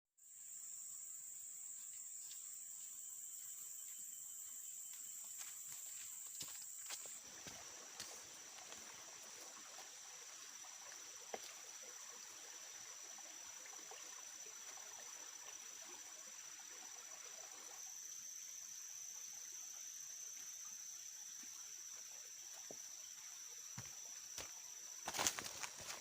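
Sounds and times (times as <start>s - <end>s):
crickets trilling: 0.2s - 26.0s.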